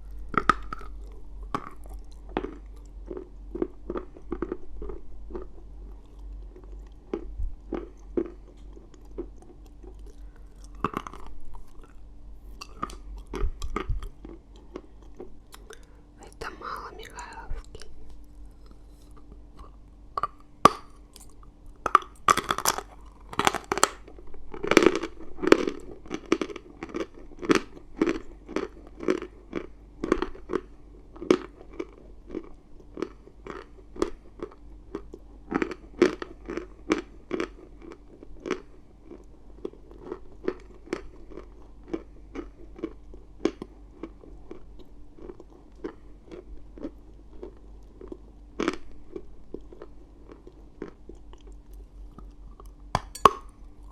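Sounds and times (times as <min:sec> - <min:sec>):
person chewing chalk crunches: 0:00.0 - 0:53.9.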